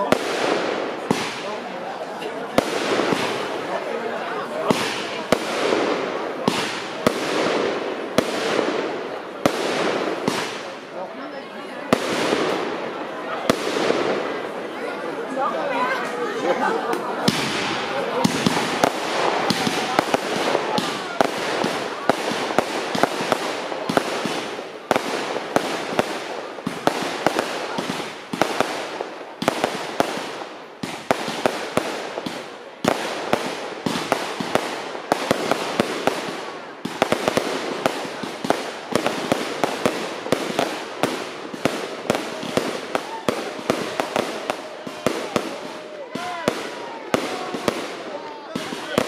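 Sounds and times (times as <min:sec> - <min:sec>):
fireworks crackling: 0:00.0 - 0:49.0.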